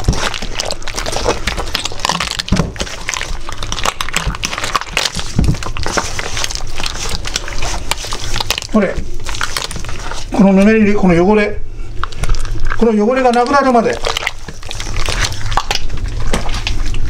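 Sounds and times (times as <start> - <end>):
gritty crackling of salt rubbing: 0.0 - 17.0.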